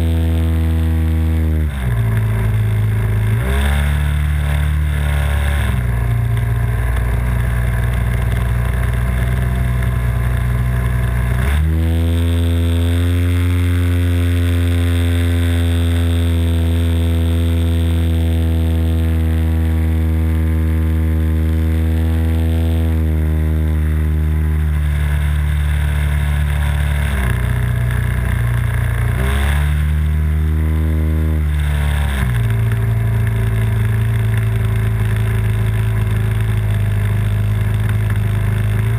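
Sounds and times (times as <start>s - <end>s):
model plane engine and propeller: 0.0s - 38.9s.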